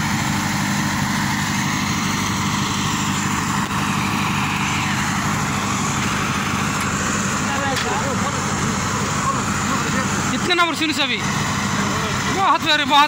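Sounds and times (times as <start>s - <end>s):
large engine idling: 0.0s - 13.0s.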